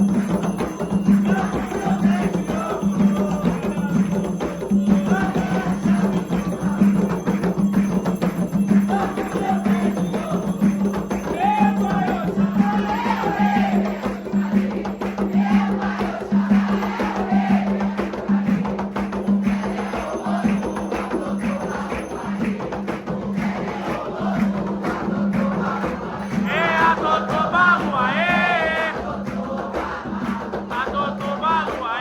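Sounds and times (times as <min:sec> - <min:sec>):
single voice singing: 0:00.0 - 0:07.6, 0:08.7 - 0:32.0
group singing: 0:00.0 - 0:32.0
percussion and shakers: 0:00.0 - 0:32.0.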